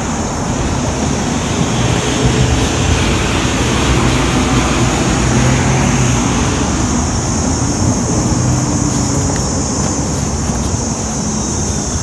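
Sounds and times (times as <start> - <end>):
low engine hum: 0.0 - 12.0
road traffic rushing: 0.0 - 12.0.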